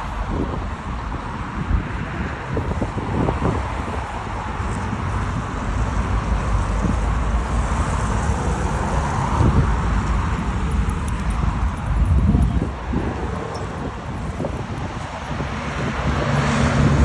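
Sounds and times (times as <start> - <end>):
heavy motorway traffic: 0.0 - 17.0.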